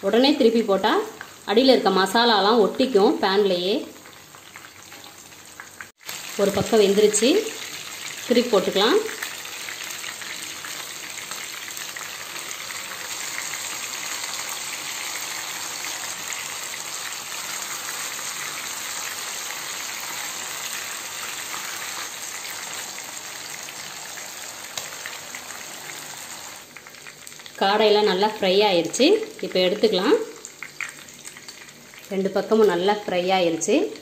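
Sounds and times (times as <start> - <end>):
oil sizzling in a pan: 0.1 - 33.3.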